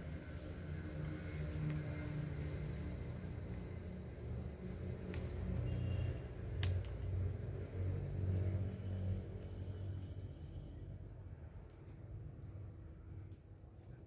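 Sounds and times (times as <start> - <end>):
low engine hum: 0.0 - 13.6.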